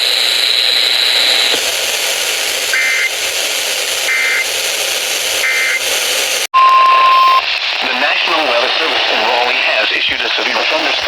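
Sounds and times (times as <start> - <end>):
radio hiss: 0.0 - 6.5, 7.4 - 11.0.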